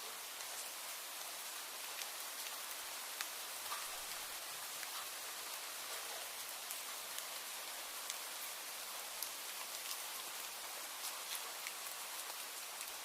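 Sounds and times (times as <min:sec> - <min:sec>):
raindrops hitting a surface: 0:00.0 - 0:13.0
steady rain hissing: 0:00.0 - 0:13.0.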